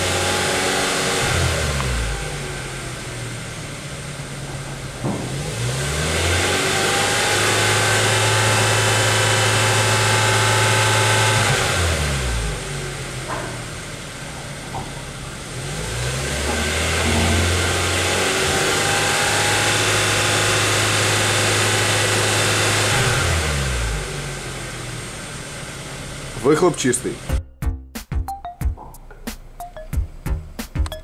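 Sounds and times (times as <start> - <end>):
car engine revving at exhaust: 0.0 - 26.4.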